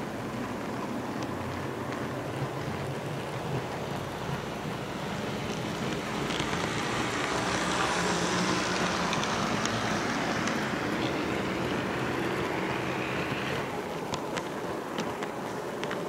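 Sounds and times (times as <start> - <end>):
model train wheels rumbling on rail: 0.0 - 16.0.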